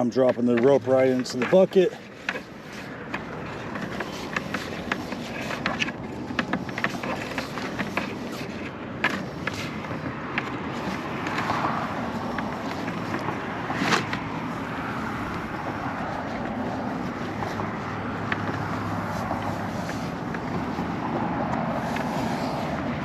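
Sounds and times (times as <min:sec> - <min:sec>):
road traffic hiss: 0:00.0 - 0:23.0
rope rustling and tapping: 0:00.0 - 0:23.0.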